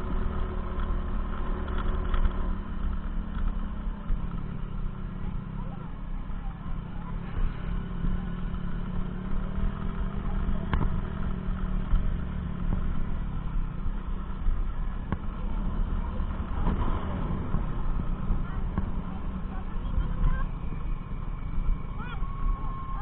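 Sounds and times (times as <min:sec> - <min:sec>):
engine running with low rumble: 0:00.0 - 0:23.0.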